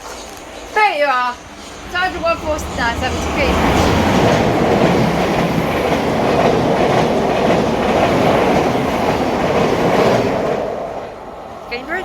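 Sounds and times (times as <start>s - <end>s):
train wheels clattering over rails: 1.3s - 11.2s.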